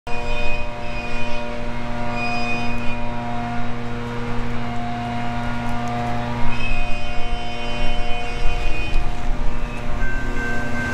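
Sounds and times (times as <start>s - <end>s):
distant freight train droning: 0.1s - 10.9s
locomotive held tones: 0.1s - 10.9s.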